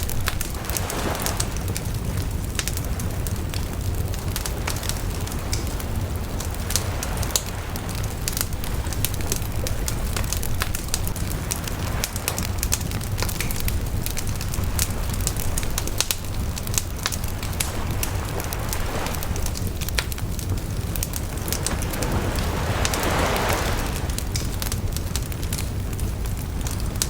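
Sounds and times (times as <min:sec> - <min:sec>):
low rumble of fire: 0:00.0 - 0:27.0
rushing swell of fire: 0:00.0 - 0:27.0
wood bonfire crackling: 0:00.0 - 0:27.0.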